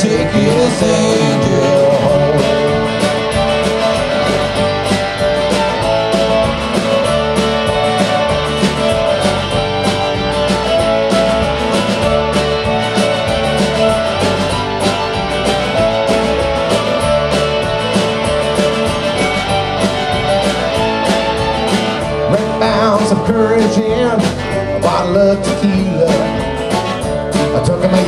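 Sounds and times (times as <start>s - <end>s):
fiddle playing bowed notes: 0.0s - 24.1s
bass: 0.0s - 28.0s
drums keeping a steady beat: 0.0s - 28.0s
electric guitar: 0.0s - 28.0s
strummed acoustic guitar: 0.0s - 28.0s.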